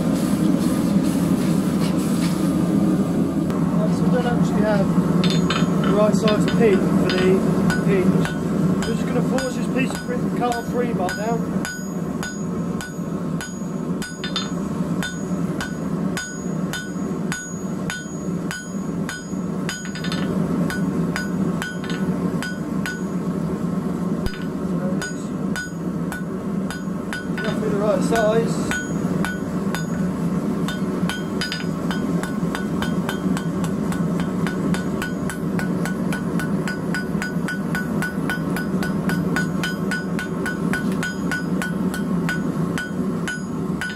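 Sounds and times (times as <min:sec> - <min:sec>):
steady low hum: 0:00.0 - 0:43.9
hammer ringing on hot metal: 0:05.2 - 0:23.3, 0:24.2 - 0:43.9.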